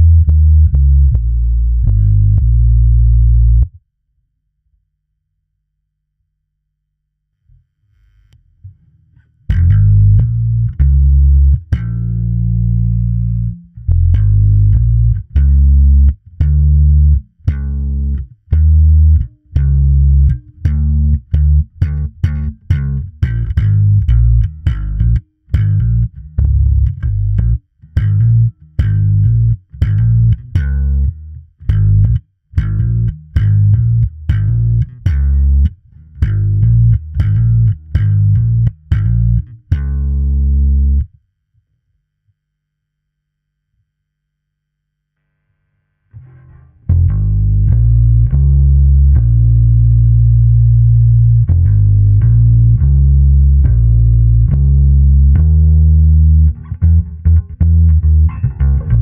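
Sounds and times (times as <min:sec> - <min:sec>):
electric bass plucked notes: 0:00.0 - 0:03.8, 0:09.4 - 0:41.1, 0:46.2 - 0:59.0.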